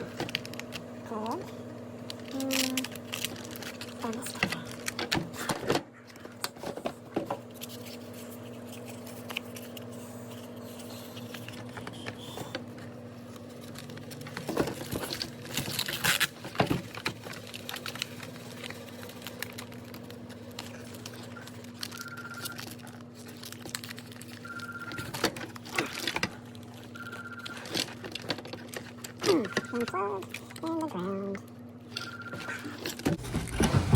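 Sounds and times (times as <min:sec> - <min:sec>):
plastic parts clicking and rustling: 0:00.0 - 0:01.4, 0:02.1 - 0:09.9, 0:13.3 - 0:33.9
steady low hum: 0:00.0 - 0:33.9.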